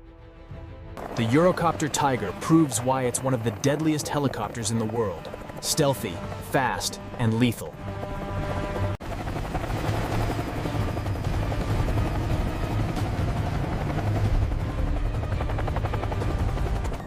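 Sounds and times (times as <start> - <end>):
helicopter engine rumble: 1.0 - 17.0
helicopter rotor chop: 1.0 - 17.0.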